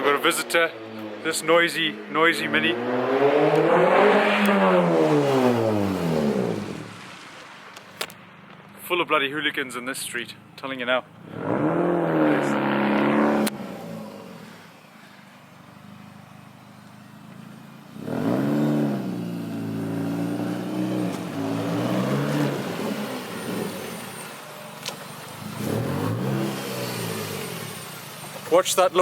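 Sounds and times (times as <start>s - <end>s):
car engines revving past: 0.0s - 8.7s, 11.1s - 28.5s.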